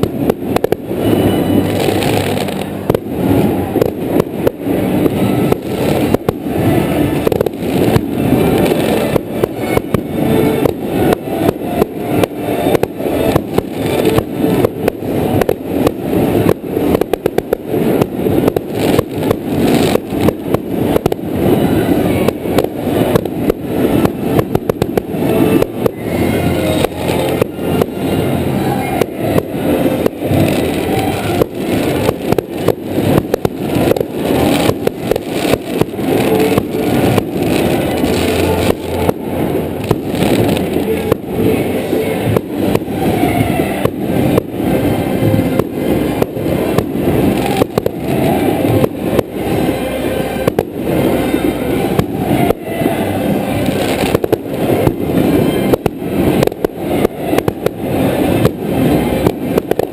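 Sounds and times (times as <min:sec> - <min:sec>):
fireworks bursting and crackling: 0:00.0 - 0:59.9
rapid fireworks reports: 0:00.0 - 0:59.9.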